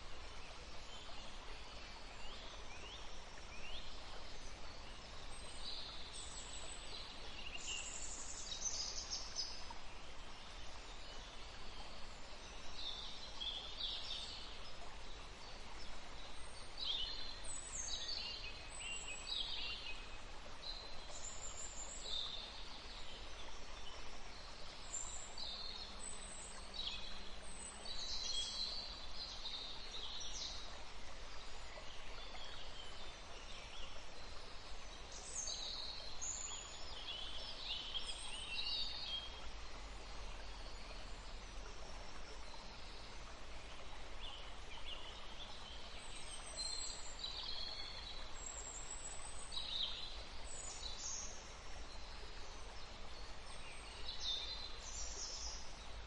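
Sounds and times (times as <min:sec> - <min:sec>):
faint background hiss: 0:00.0 - 0:56.0
songbirds chirping: 0:00.0 - 0:56.0.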